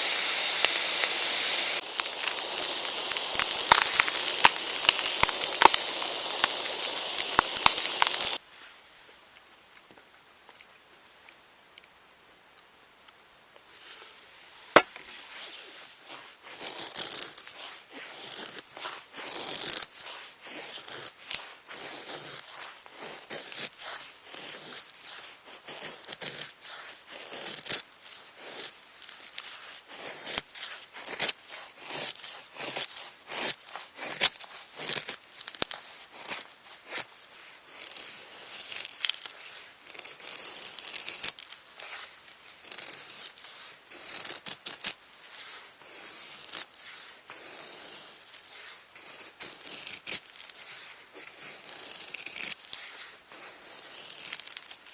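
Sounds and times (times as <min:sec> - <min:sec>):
tearing and crinkling: 0:00.0 - 0:08.4, 0:15.3 - 0:54.9.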